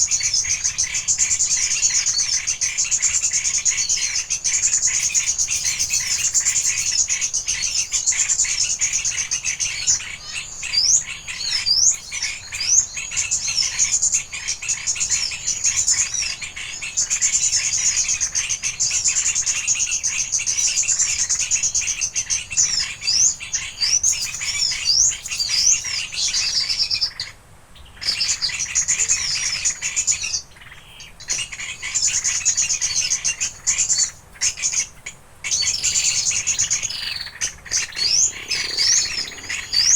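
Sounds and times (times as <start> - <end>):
birds chirping: 0.0 - 16.0, 16.8 - 27.2, 27.8 - 39.9
small birds trilling: 0.0 - 39.9.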